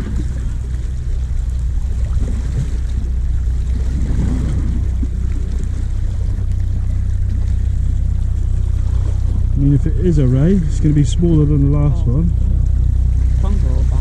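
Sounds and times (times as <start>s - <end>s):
waves lapping against rocks: 0.0s - 14.0s
wind buffeting microphone: 0.0s - 14.0s.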